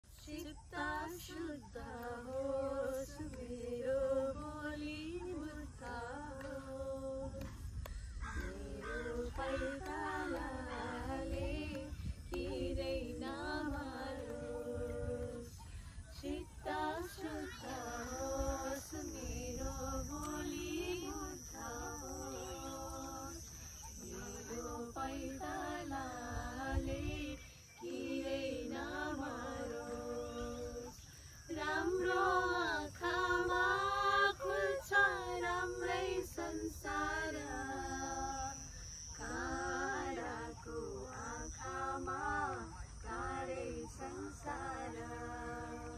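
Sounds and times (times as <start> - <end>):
women singing unaccompanied: 0.0 - 45.9.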